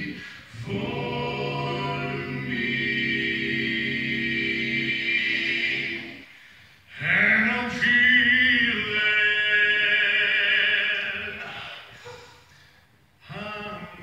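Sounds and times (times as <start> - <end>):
male vocal quartet singing: 0.0 - 6.3, 6.9 - 12.3.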